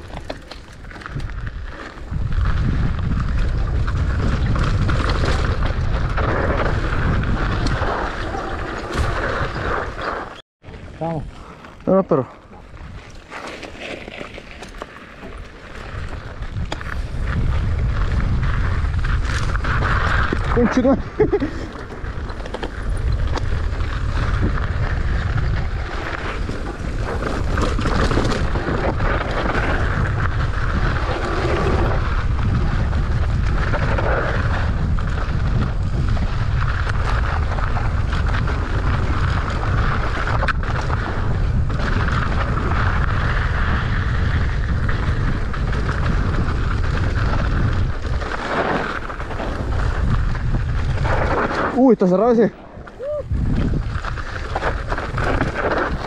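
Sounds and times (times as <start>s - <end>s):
bike tyres rolling on loose dirt: 0.0s - 56.0s
wind rushing over microphone: 1.0s - 10.4s, 15.8s - 56.0s.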